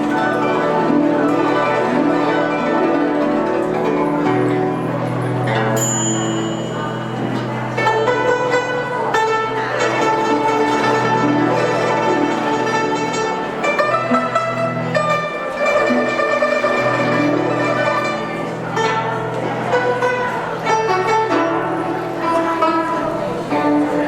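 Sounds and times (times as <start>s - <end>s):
plucked strings: 0.0s - 24.0s
traditional orchestra melody: 0.0s - 24.0s.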